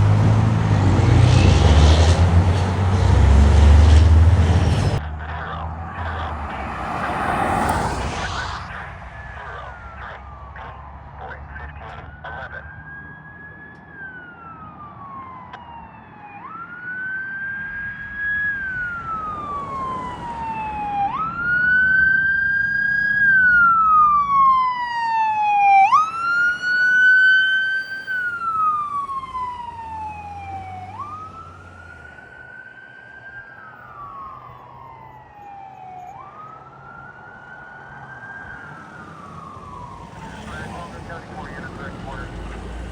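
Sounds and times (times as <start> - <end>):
electronic siren wailing: 0.0 - 42.9.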